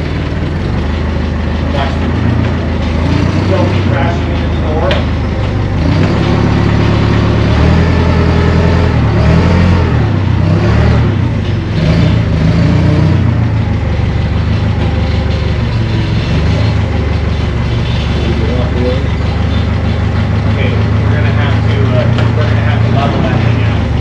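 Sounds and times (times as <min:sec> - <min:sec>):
engine revving unevenly: 0:00.0 - 0:24.0.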